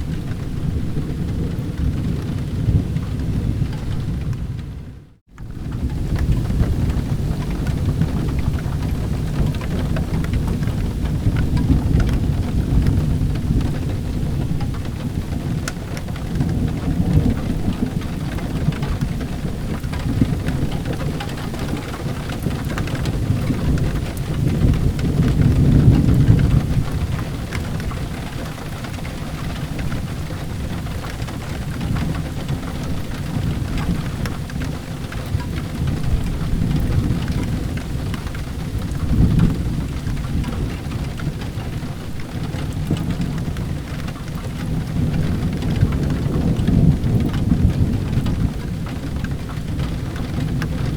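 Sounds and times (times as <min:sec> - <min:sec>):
low rolling thunder: 0:00.0 - 0:50.9
steady rain: 0:00.0 - 0:50.9.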